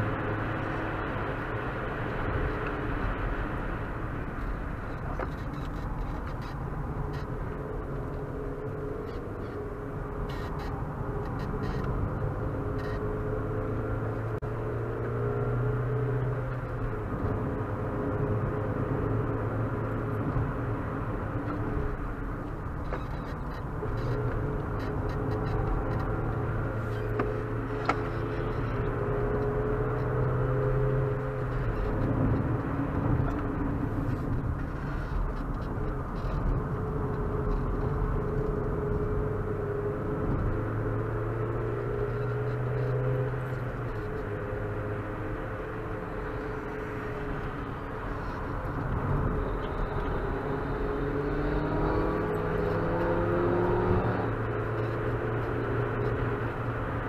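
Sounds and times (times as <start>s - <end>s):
car engine running steadily: 0.0s - 57.0s
road and wind noise: 0.0s - 57.0s.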